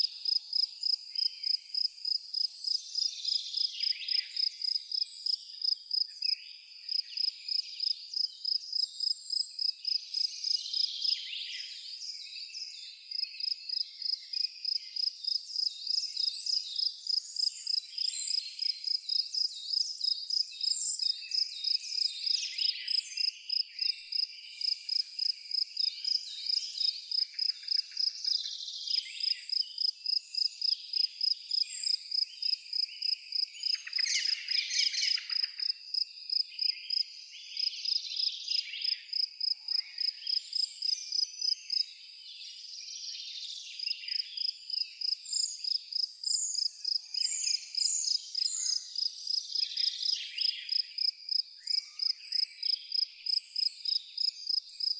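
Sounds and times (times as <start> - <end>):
cricket chirping: 0.0 - 11.2, 13.0 - 42.6, 43.3 - 54.9
forest birds singing: 0.0 - 54.9.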